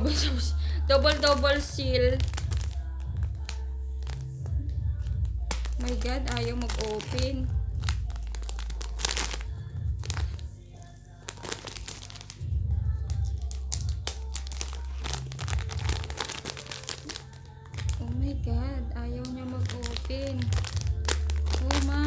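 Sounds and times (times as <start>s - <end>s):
music with low beat: 0.0s - 22.0s
plastic pouch crinkling: 1.0s - 10.5s, 11.1s - 18.4s, 19.2s - 22.0s.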